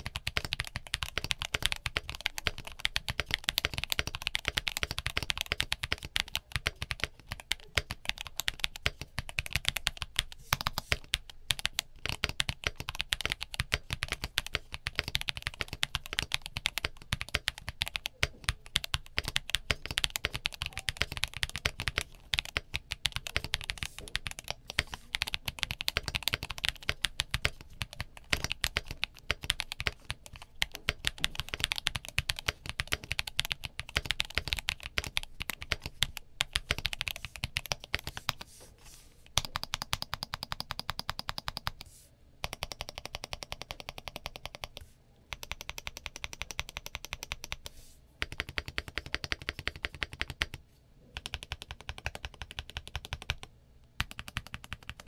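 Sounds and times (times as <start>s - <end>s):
mechanical keyboard typing: 0.0s - 38.4s, 39.3s - 41.8s, 42.4s - 50.6s, 51.2s - 55.0s.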